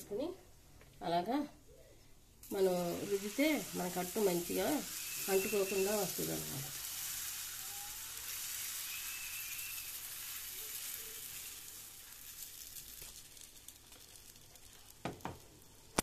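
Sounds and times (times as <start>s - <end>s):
batter sizzling on hot pan: 2.4s - 16.0s.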